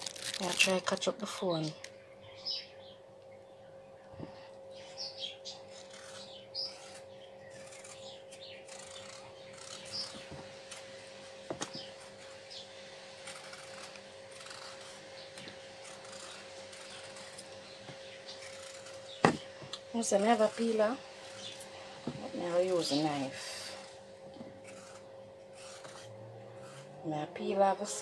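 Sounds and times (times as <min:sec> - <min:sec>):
steady hum: 0:00.0 - 0:28.0
knife peeling potatoes: 0:05.6 - 0:28.0.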